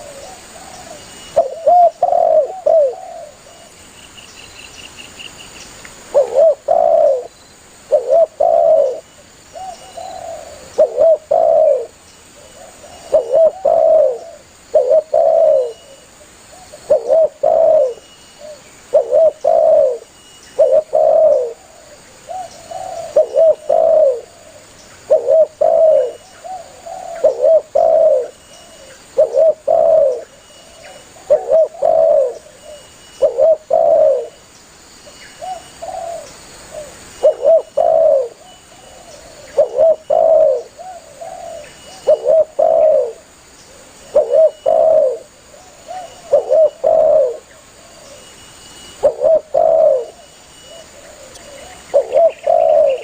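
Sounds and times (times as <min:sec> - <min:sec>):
dove cooing: 0:00.0 - 0:03.8, 0:06.1 - 0:34.4, 0:35.4 - 0:48.3, 0:48.9 - 0:53.0.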